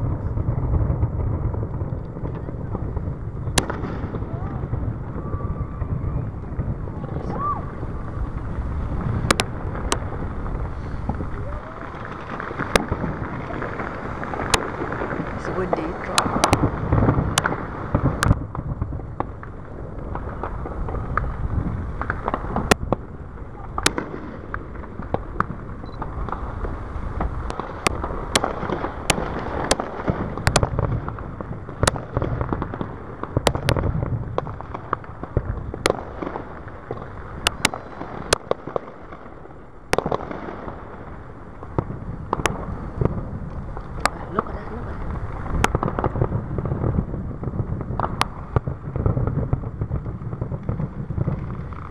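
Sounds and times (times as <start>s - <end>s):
steady low rumble: 0.0s - 38.4s, 40.8s - 51.9s
fireworks bursting: 0.0s - 51.9s.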